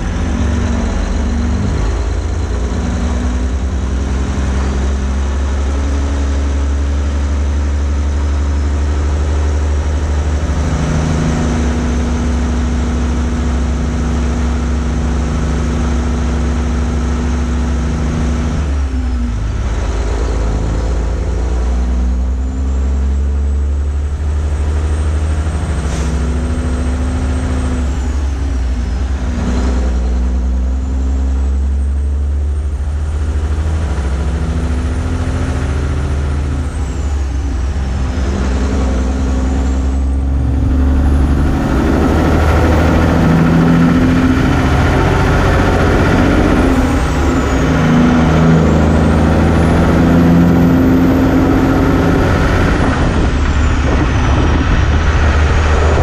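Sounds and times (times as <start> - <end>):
diesel truck engine: 0.0 - 56.0
wind and road noise: 0.0 - 56.0.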